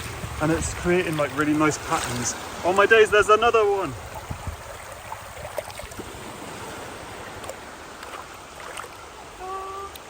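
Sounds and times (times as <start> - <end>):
small water splashes: 0.0 - 10.0
water washing over sand: 0.0 - 10.0.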